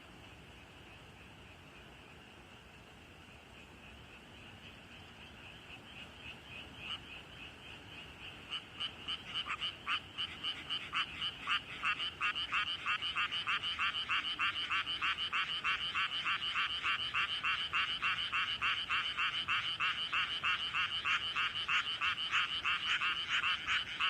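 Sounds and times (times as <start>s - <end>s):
chorus of many frogs: 0.0s - 24.0s
frog croaking: 3.5s - 24.0s.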